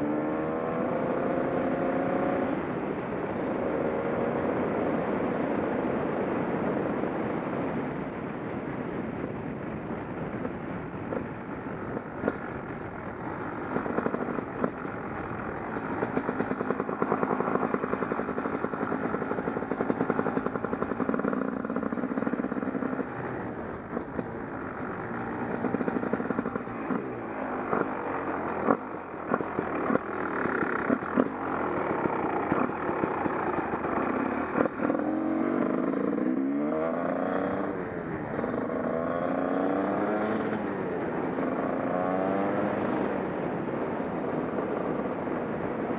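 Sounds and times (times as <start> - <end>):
motorcycle engine revving: 0.0 - 7.0, 11.1 - 45.9.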